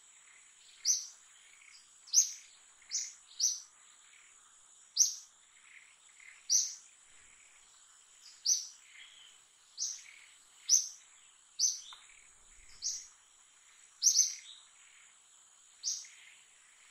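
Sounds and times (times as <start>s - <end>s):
bird chirping: 0.1s - 16.9s.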